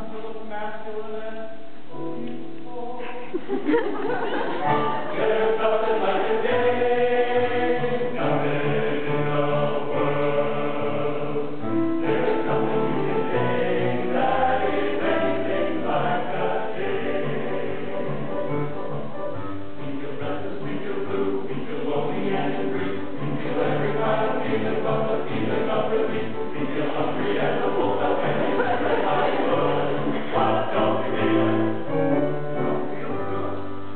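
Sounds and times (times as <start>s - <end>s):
men's choir singing in harmony: 0.0s - 33.9s.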